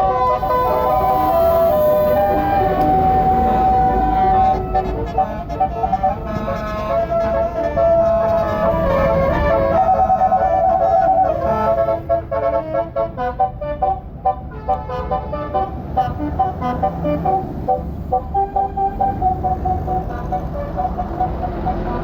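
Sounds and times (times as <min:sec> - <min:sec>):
bus musical horn playing tune: 0:00.0 - 0:22.0.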